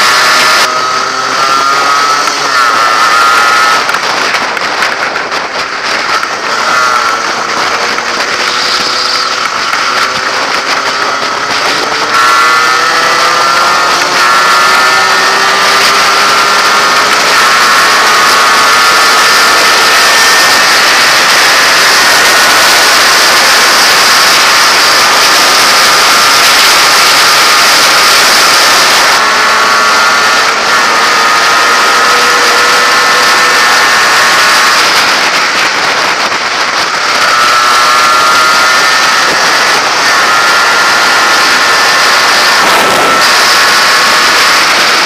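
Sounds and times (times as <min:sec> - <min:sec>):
motorcycle engine running: 0:00.0 - 0:45.0
wind rush over microphone: 0:00.0 - 0:45.0.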